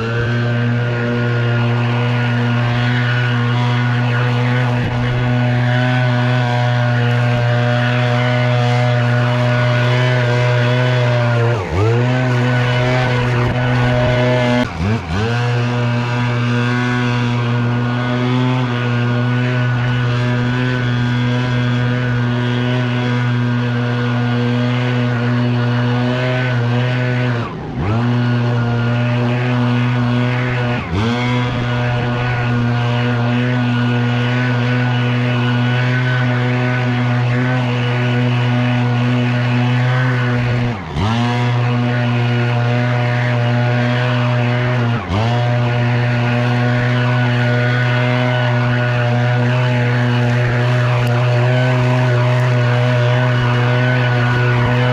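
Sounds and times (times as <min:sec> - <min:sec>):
leaf blower running: 0:00.0 - 0:54.9.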